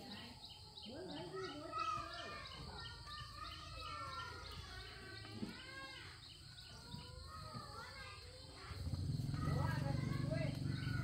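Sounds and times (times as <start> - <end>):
birds chirping: 0.0 - 11.0
children's voices: 0.0 - 11.0.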